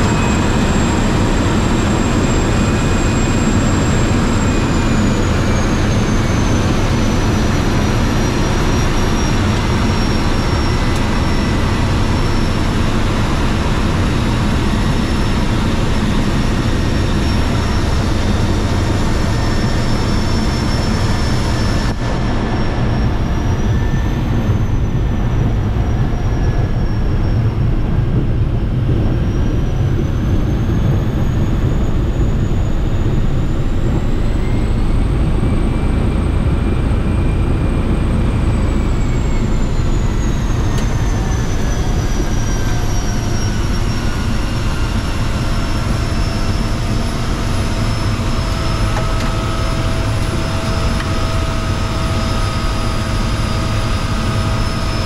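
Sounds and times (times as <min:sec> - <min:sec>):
seaplane engine droning: 0:00.0 - 0:55.0.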